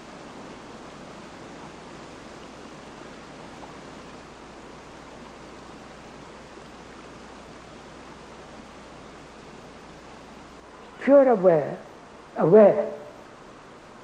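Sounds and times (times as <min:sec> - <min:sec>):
falling water rushing: 0:00.0 - 0:14.0.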